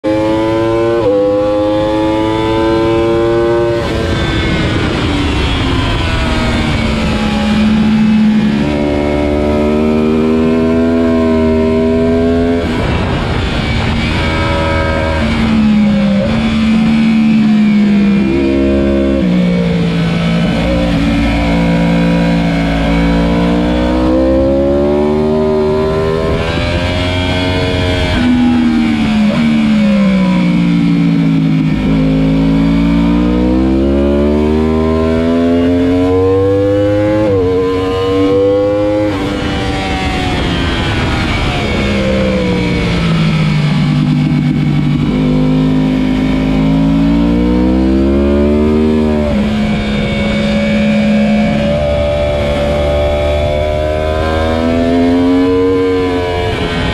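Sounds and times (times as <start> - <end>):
motorcycle engine accelerating: 0.0 - 56.9
wind rush: 2.9 - 33.6, 34.7 - 56.9.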